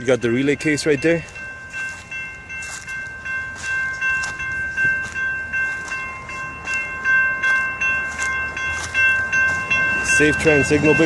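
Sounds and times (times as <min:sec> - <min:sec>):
railroad crossing bell ringing: 0:00.0 - 0:11.0.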